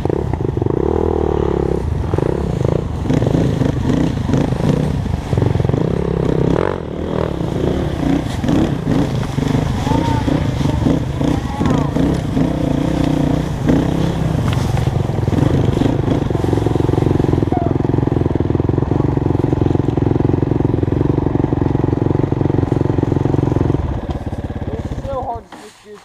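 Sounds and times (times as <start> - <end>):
dirt bike engine: 0.0 - 26.0.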